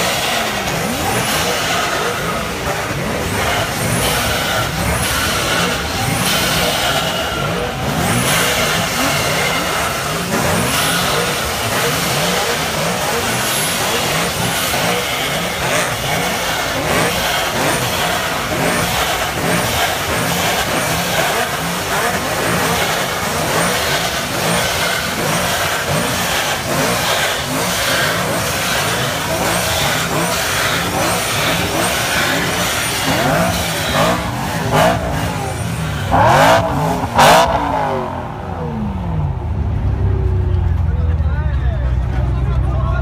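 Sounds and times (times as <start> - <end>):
sharp exhaust cracks: 0.0 - 41.2
car engines revving: 0.0 - 43.0.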